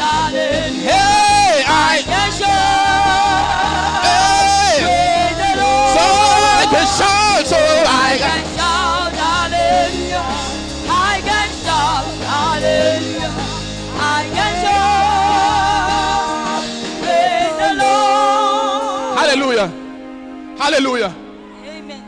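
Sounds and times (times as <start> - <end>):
band with bass: 0.0 - 21.8.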